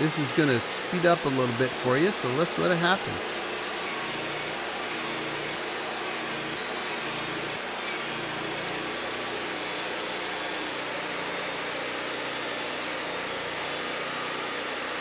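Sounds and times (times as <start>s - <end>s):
band sawmill sawing wood: 0.0s - 15.0s.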